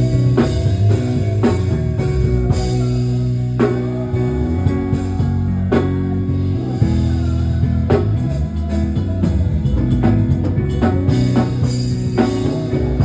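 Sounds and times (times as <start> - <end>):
bass line: 0.0 - 13.0
drum kit: 0.0 - 13.0
guitar: 0.0 - 13.0.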